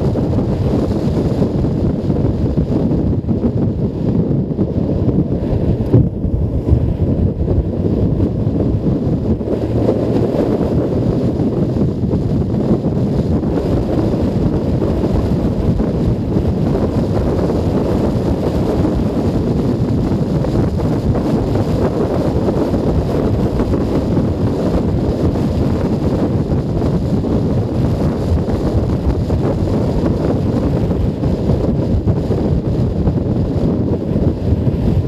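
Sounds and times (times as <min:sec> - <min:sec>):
motorcycle engine rumble: 0:00.0 - 0:35.0
wind buffeting microphone: 0:00.0 - 0:35.0.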